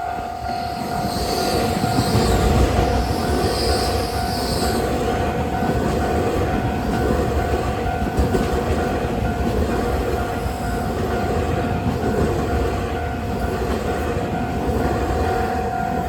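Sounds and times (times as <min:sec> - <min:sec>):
crossing warning signal ringing: 0:00.0 - 0:16.0
train rumbling past: 0:00.0 - 0:16.0.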